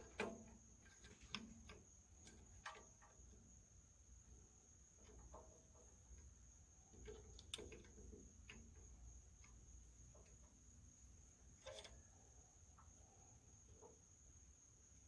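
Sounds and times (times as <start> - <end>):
faint metallic clicks: 0.0 - 14.2
faint steady high whine: 0.0 - 15.0.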